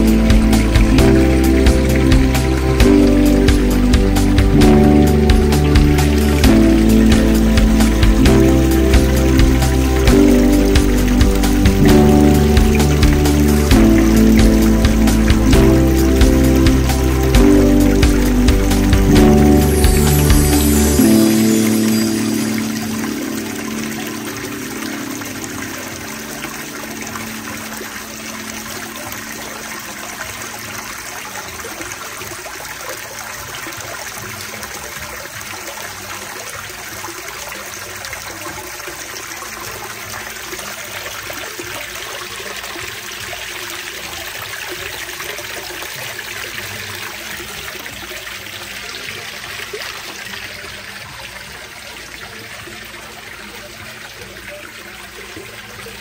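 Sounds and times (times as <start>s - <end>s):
water splashing over waterfall: 0.0s - 56.0s.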